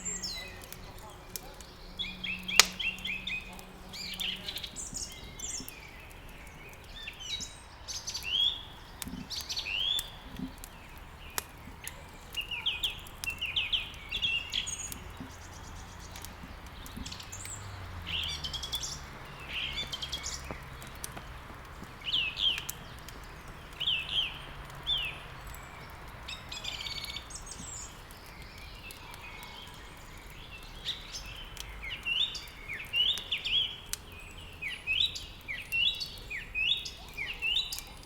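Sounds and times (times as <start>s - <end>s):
firewood crackling and popping: 0.0s - 38.0s
songbirds chirping and singing: 0.0s - 38.0s.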